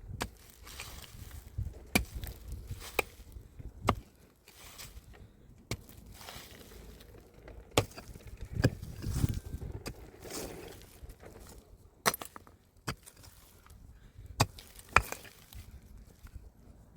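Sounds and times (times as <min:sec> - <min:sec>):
soil scraping: 0:00.0 - 0:16.9
pickaxe striking rocky ground: 0:00.1 - 0:07.1, 0:07.7 - 0:15.8.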